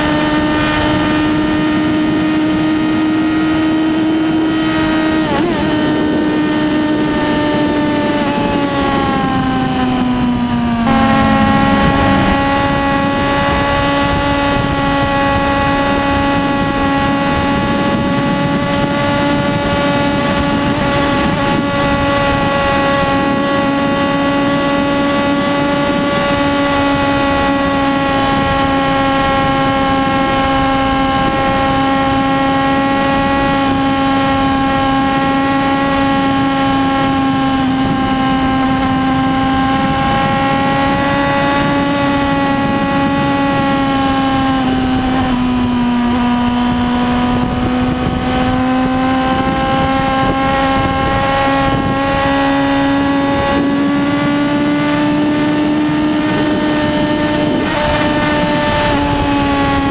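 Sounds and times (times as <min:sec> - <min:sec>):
motorcycle engine revving high: 0:00.0 - 0:59.9
wind rush: 0:04.0 - 0:59.9.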